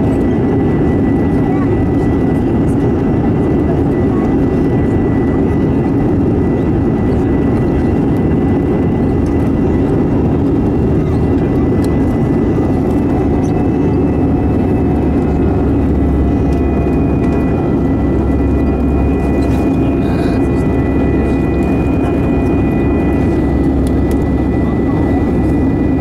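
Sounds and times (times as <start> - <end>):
airliner cabin engine noise: 0.0 - 26.0.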